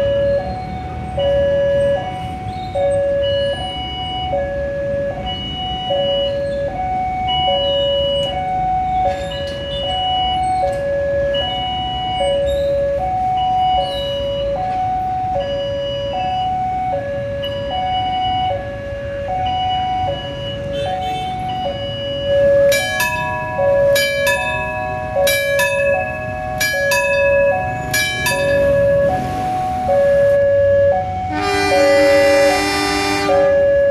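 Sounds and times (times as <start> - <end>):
two-tone crossing alarm: 0.0 - 33.9.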